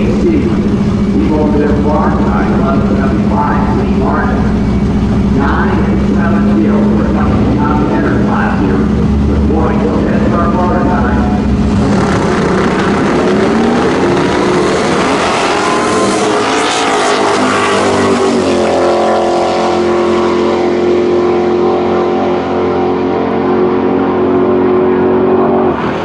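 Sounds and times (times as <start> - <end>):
trucks accelerating at full throttle: 0.0 - 26.0.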